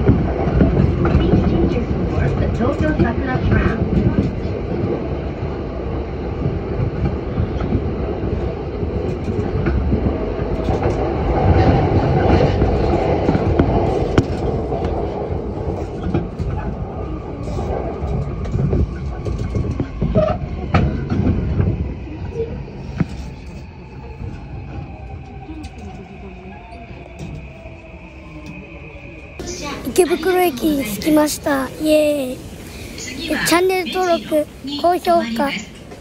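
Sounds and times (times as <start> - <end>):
train wheels rumbling on rail: 0.0 - 29.9.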